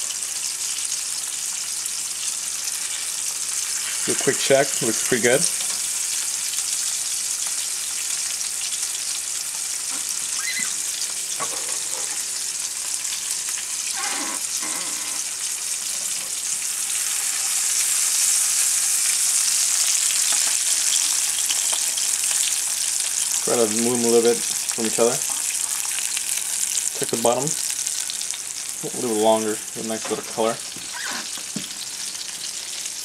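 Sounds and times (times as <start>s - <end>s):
fish sizzling in a frying pan: 0.0s - 33.0s.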